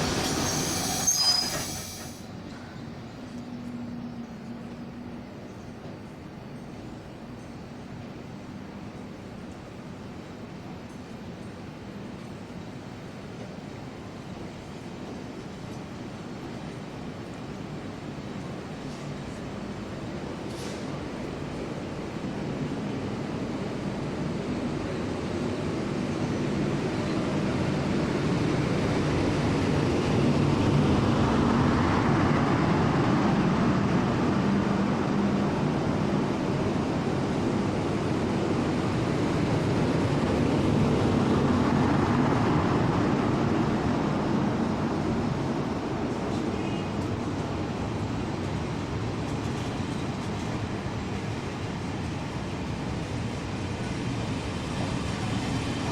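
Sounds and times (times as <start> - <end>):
train rumbling past: 0.0 - 55.9.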